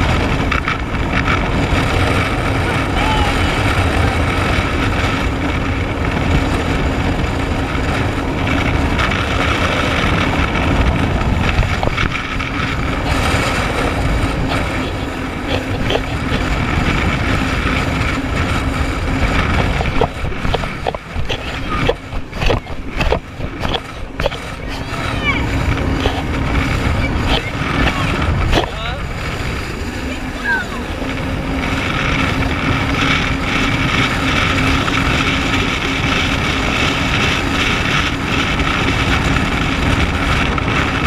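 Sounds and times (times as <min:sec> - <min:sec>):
jet ski engine running: 0:00.0 - 0:41.0
wind on microphone: 0:00.0 - 0:41.0.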